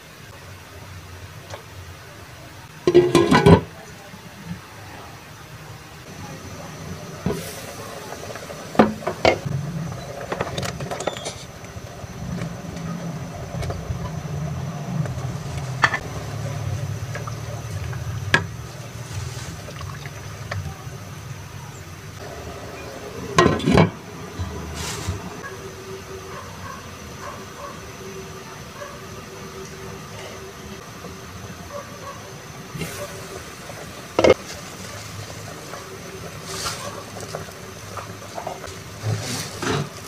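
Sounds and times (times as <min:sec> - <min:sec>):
gas burner low rumble: 0:00.0 - 0:40.0.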